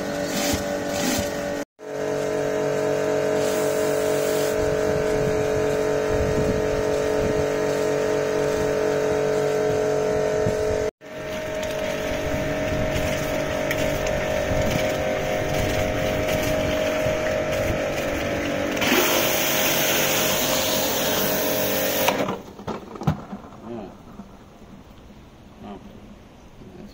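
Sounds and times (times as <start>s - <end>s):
pressure washer whining: 0.0s - 22.4s.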